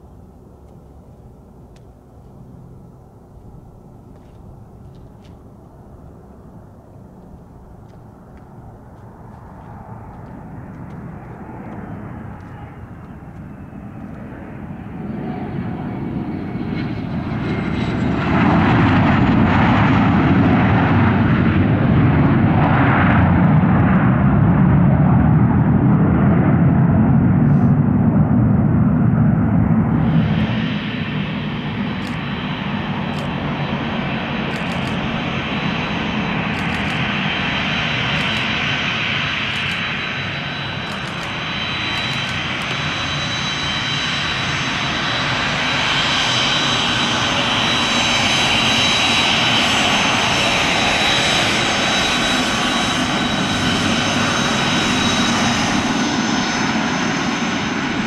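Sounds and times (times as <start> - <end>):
deep jet rumble: 0.0 - 58.0
jet engines whining: 0.1 - 58.0.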